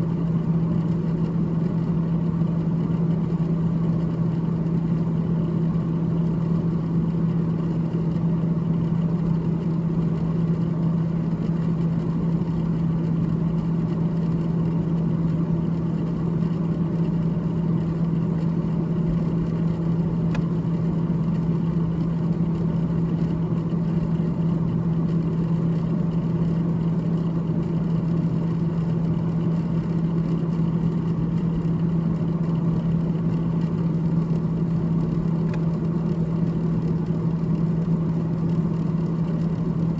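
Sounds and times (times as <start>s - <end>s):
freezer fan humming and whirring: 0.0s - 39.9s.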